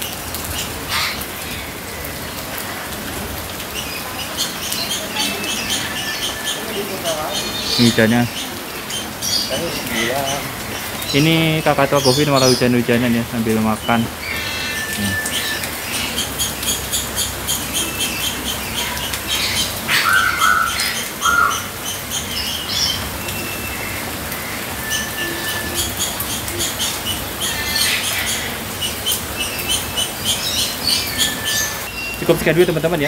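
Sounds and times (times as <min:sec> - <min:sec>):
harsh bird calls: 0:00.0 - 0:33.0
steady rain: 0:00.0 - 0:33.0
birds chirping and whistling: 0:03.6 - 0:33.0.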